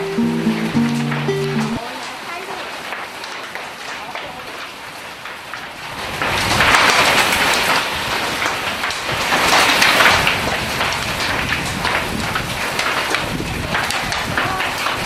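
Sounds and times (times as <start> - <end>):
hail and heavy rain pelting: 1.9 - 15.0.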